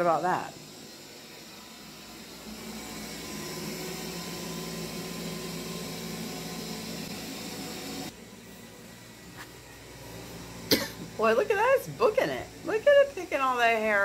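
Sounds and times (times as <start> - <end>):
robot vacuum whirring: 0.0 - 14.0.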